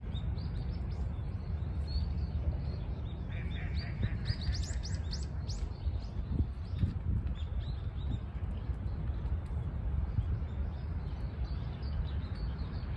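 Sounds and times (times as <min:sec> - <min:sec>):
small birds chirping: 0:00.0 - 0:12.9
steady low rumble: 0:00.0 - 0:12.9.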